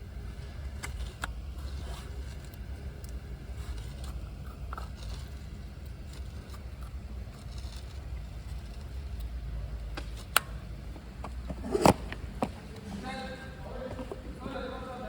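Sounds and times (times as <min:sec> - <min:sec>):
light clicks and scrapes: 0:00.1 - 0:13.1.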